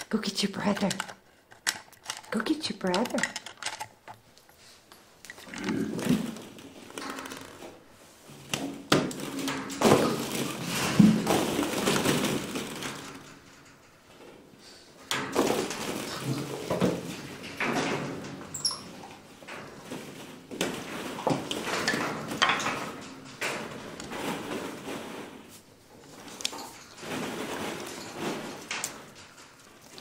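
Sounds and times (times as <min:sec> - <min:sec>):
plastic balls clattering: 0:00.0 - 0:04.6, 0:05.2 - 0:30.0.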